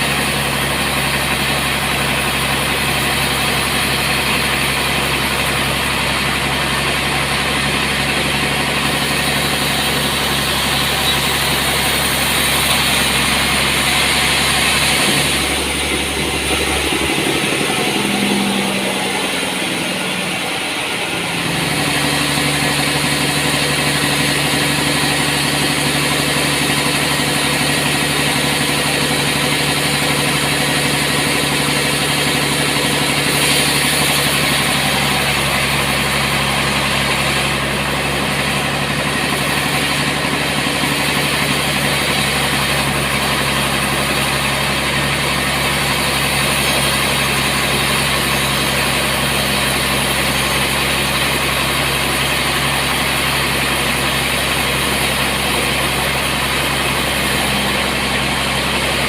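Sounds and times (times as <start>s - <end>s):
sawmill machinery drone and hiss: 0.0s - 59.0s.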